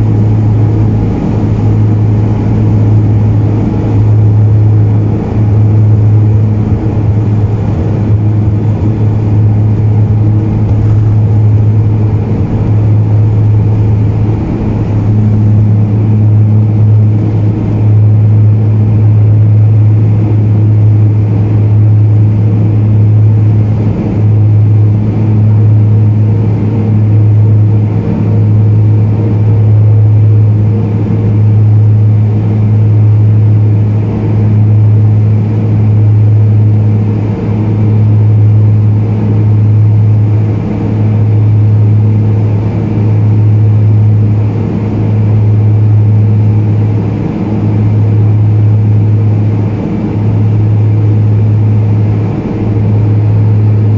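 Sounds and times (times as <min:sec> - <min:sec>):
turboprop propeller hum in cabin: 0:00.0 - 0:53.9.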